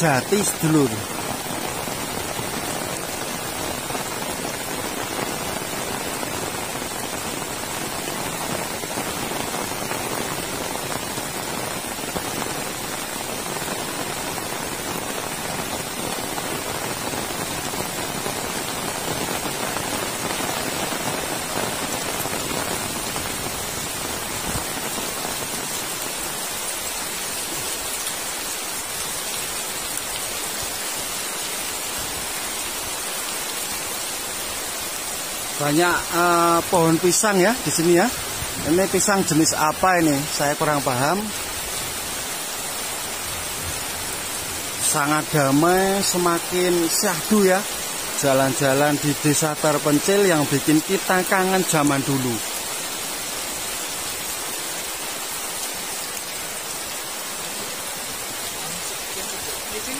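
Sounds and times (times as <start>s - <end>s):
heavy rain on ground and foliage: 0.0s - 59.9s.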